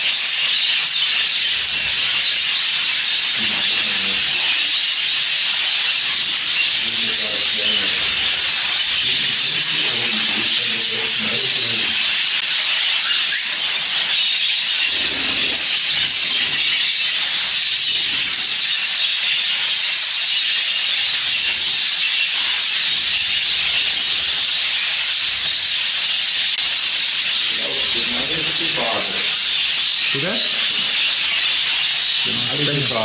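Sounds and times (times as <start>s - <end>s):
budgerigars chattering and warbling: 0.0s - 33.0s.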